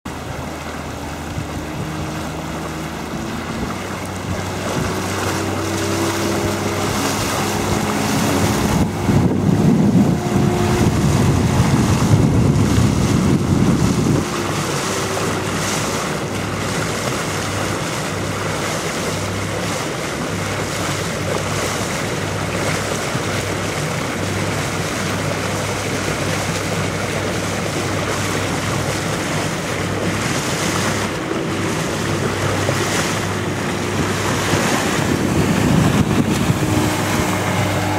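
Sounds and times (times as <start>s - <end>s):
motorboat engine: 0.0s - 37.9s
water rushing: 0.0s - 37.9s
wind buffeting microphone: 0.1s - 37.9s.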